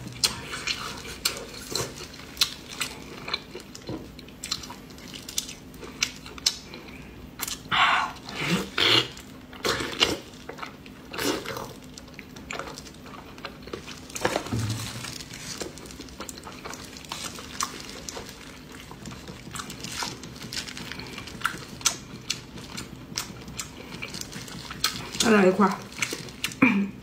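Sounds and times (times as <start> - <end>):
person chewing with wet smacks: 0.0 - 26.6.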